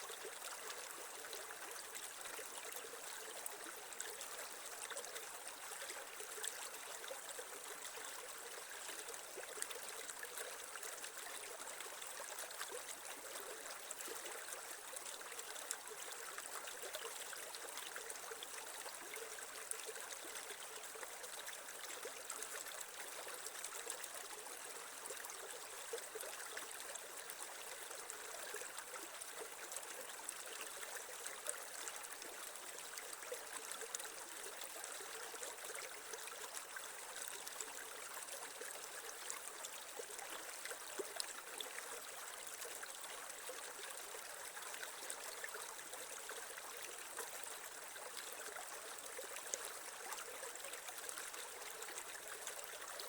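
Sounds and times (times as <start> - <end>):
creek water trickling over stones: 0.0 - 53.0.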